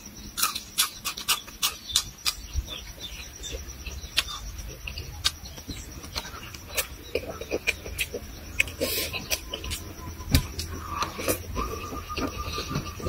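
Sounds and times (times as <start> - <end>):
man chewing and lip-smacking: 0.3 - 13.0.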